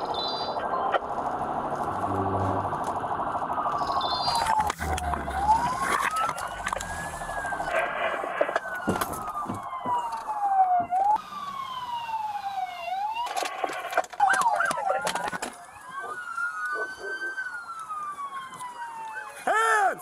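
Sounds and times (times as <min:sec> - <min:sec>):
police sirens wailing: 0:00.0 - 0:20.0.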